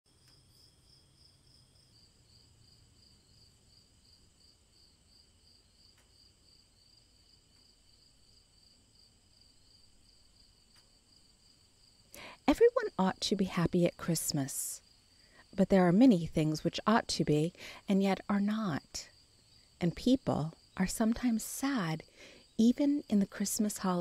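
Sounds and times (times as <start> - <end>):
crickets chirping: 0.1 - 24.0
steady high insect trill: 0.2 - 24.0.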